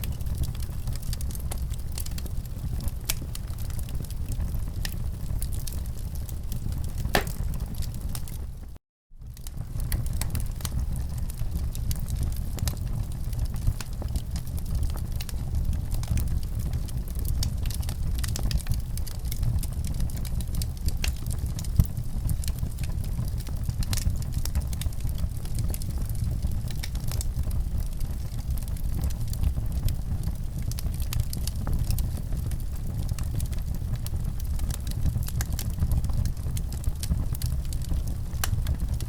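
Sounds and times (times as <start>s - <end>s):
fire popping: 0.0s - 8.6s, 9.4s - 39.0s
wood fire crackling: 0.0s - 8.7s, 9.4s - 39.0s
low fire rumble: 0.0s - 39.0s.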